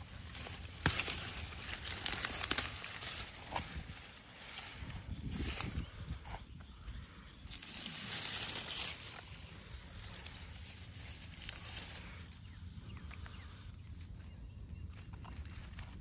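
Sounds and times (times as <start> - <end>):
leaves and soil rustling: 0.0 - 16.0.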